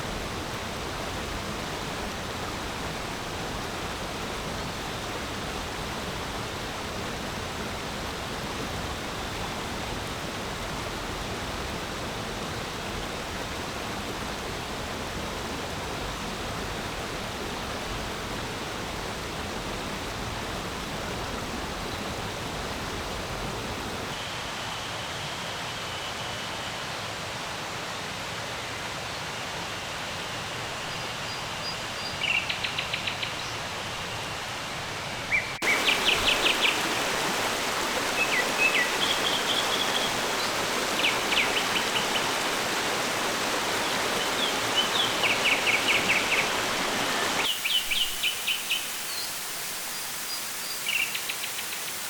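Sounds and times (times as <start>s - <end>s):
stream water flowing: 0.0s - 24.2s, 27.2s - 52.0s.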